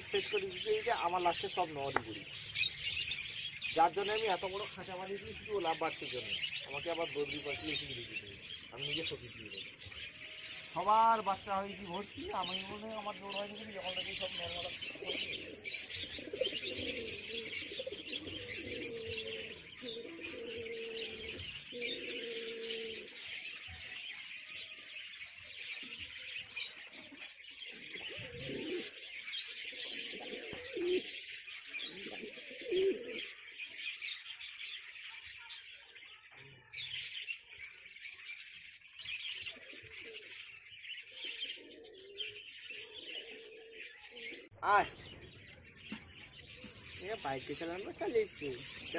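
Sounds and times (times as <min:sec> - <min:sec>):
pigeons cooing: 0:00.0 - 0:48.9
small birds chirping: 0:00.0 - 0:48.9.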